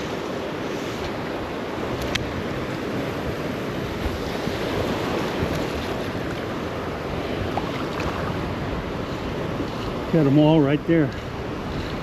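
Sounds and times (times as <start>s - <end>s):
surf washing on beach: 0.0s - 12.0s
wind on microphone: 0.0s - 12.0s.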